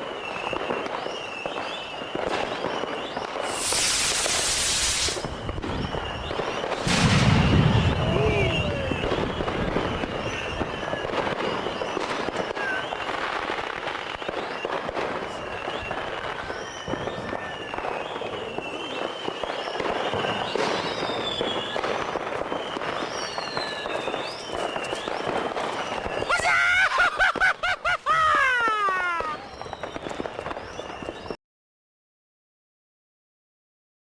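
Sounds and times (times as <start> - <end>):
firecrackers crackling: 0.0 - 31.4
firework whistles: 0.0 - 31.4.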